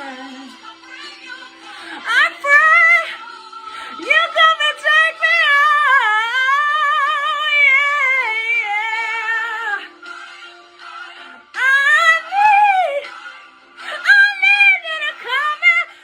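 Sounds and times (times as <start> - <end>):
woman singing with vibrato: 0.0 - 10.2, 11.2 - 16.0.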